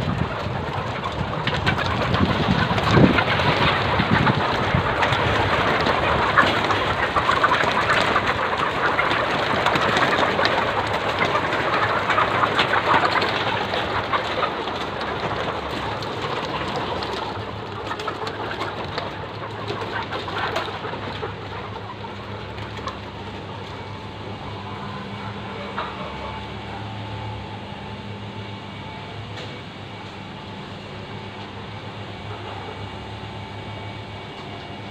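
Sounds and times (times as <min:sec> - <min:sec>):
hens clucking: 0:00.0 - 0:34.9
steady low hum: 0:00.0 - 0:34.9.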